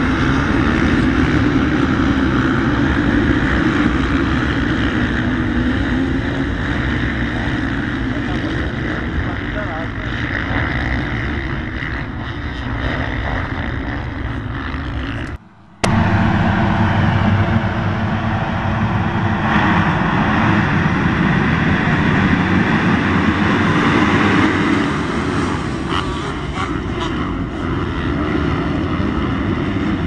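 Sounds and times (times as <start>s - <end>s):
motocross bike engines running: 0.0s - 16.2s, 19.5s - 30.0s.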